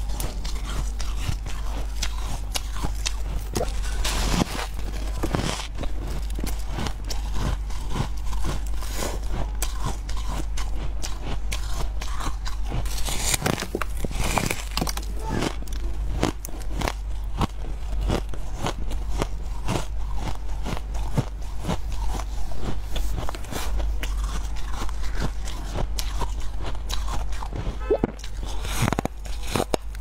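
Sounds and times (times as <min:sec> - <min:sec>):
crunchy frost being chewed: 0:00.0 - 0:30.0.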